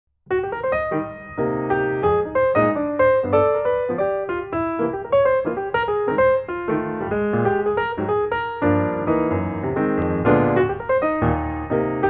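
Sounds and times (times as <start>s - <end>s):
piano music: 0.3s - 12.0s.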